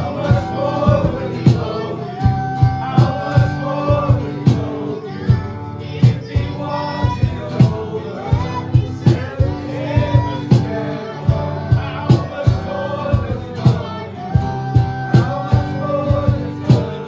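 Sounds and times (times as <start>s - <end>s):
singing: 0.0s - 17.0s
steady drum beat: 0.0s - 17.0s
worship band playing: 0.0s - 17.0s.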